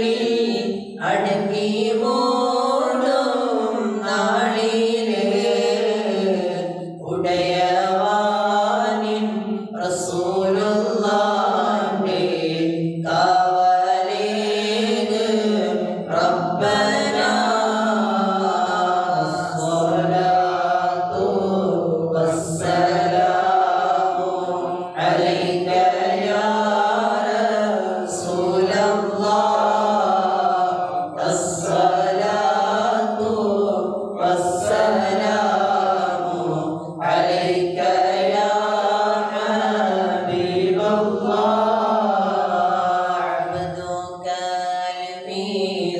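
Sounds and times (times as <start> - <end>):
men chanting through microphone: 0.0 - 45.9.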